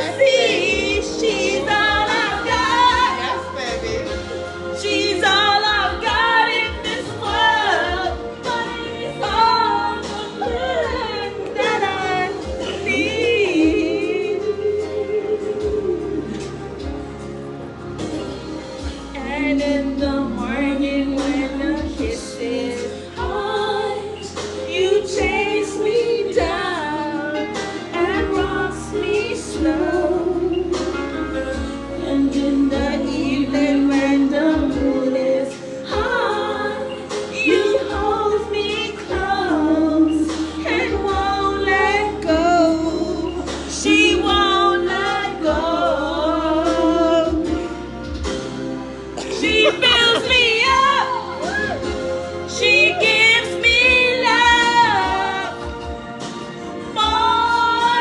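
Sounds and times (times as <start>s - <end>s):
woman singing: 0.0s - 3.6s, 4.6s - 16.8s, 19.0s - 47.7s, 49.2s - 55.8s, 56.9s - 58.0s
backing track: 0.0s - 58.0s.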